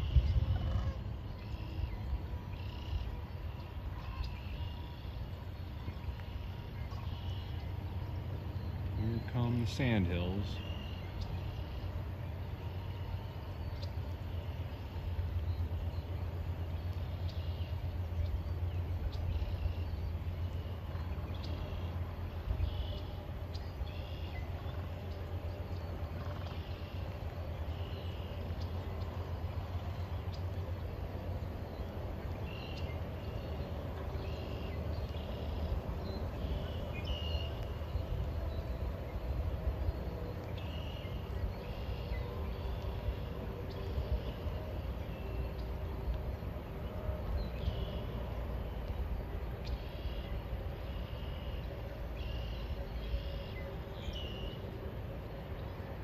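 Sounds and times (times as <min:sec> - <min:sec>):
cranes calling: 0:00.0 - 0:48.9.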